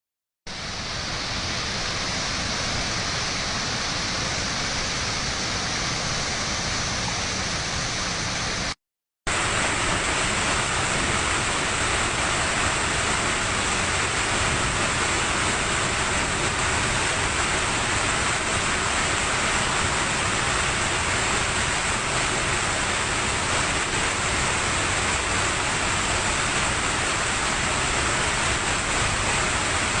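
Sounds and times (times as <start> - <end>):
waterfall rushing: 0.5 - 30.0.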